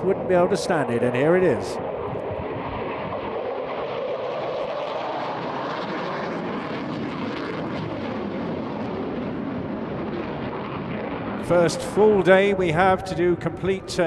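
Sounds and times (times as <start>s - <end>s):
fighter jet roar: 0.0s - 14.0s.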